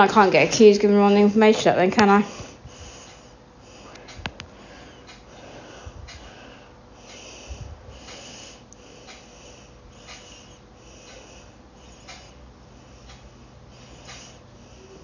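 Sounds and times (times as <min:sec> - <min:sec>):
person breathing close to microphone: 0:02.1 - 0:15.0.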